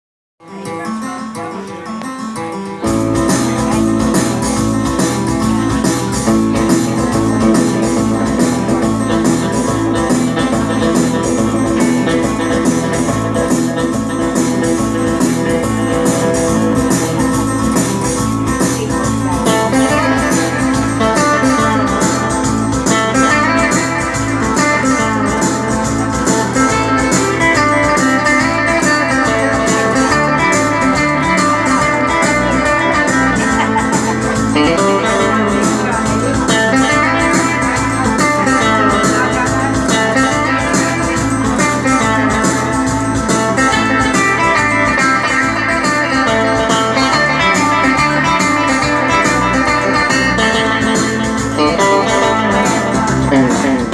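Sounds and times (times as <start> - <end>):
band playing guitar music: 0.4 - 53.9.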